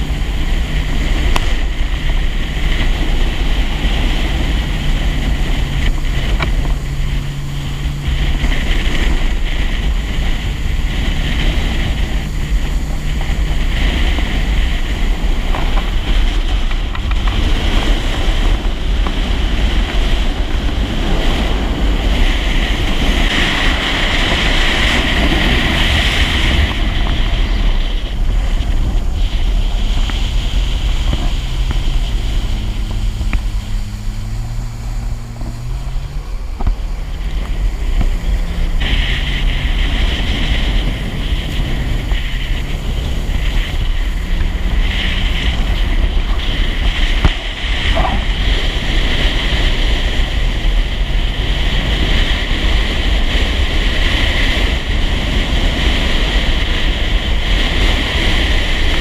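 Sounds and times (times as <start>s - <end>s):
jet ski engine: 0.0s - 59.0s
rushing water: 0.0s - 59.0s
wind on microphone: 0.0s - 59.0s.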